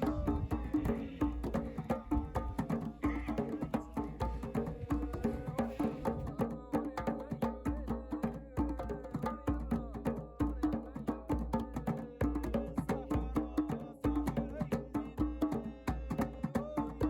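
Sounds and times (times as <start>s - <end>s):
fast clicking percussion: 0.0s - 17.0s.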